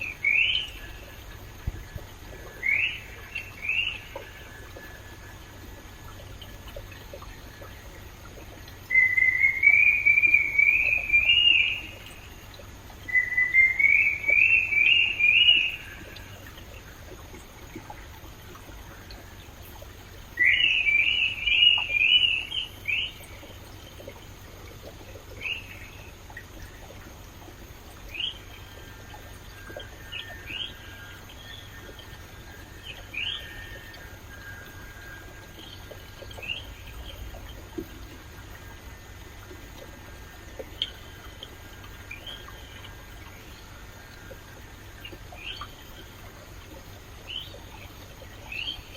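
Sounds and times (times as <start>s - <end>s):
bird singing: 0.0s - 17.2s, 17.8s - 48.9s
stream flowing: 0.0s - 48.9s.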